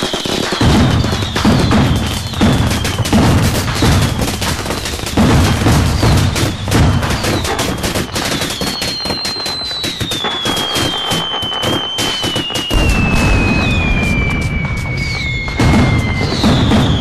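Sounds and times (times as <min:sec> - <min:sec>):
fireworks crackling and booming: 0:00.0 - 0:17.0
fireworks whistling: 0:00.0 - 0:17.0.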